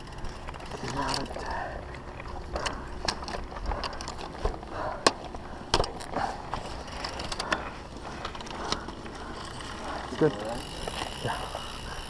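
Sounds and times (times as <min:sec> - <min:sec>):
mountain bike clattering: 0:00.0 - 0:12.0.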